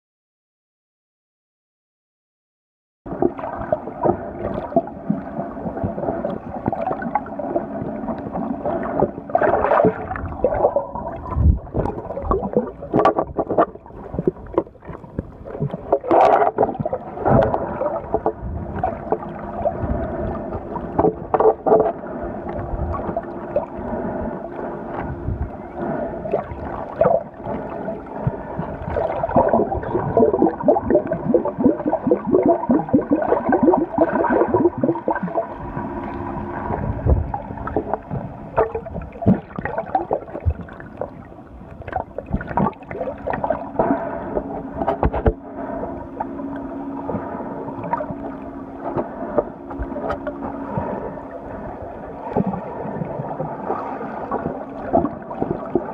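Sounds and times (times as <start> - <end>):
steady droning hum: 3.1 - 55.9
water sloshing and gurgling underwater: 3.1 - 55.9.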